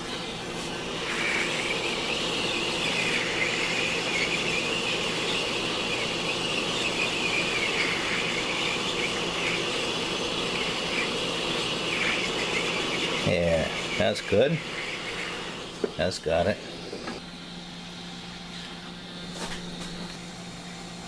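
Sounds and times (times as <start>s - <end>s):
heat gun fan blowing: 0.0s - 21.0s.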